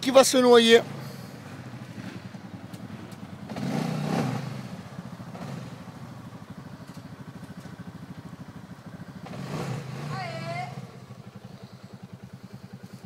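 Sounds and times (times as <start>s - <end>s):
quad engine idling and revving: 0.0s - 13.0s.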